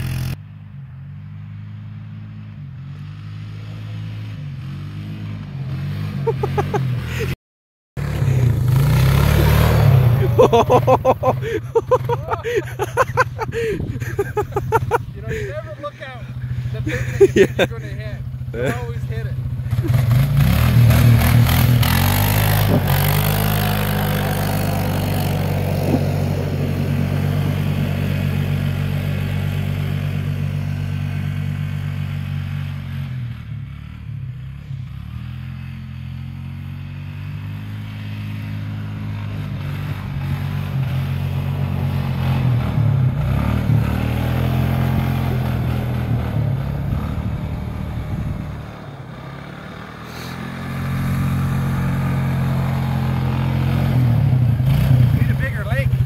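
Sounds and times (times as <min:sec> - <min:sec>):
quad bike engine revving: 0:00.0 - 0:00.4, 0:02.0 - 0:07.4, 0:08.0 - 0:56.0.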